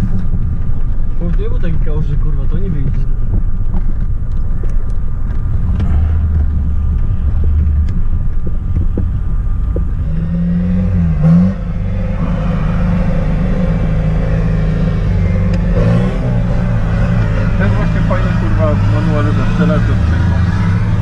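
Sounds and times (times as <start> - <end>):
vehicle engine labouring: 0.0 - 21.0.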